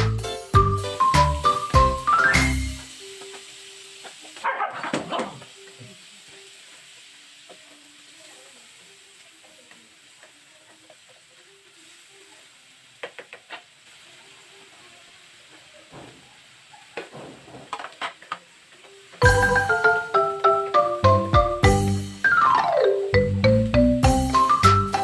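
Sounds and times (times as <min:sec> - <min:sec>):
onion sizzling in oil: 0:00.0 - 0:25.0.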